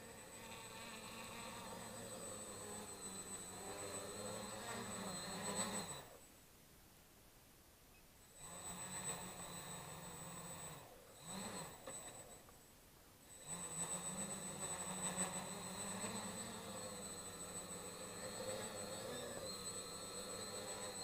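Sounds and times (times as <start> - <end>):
drone propellers whining: 0.0 - 6.3, 8.2 - 12.6, 13.2 - 21.0.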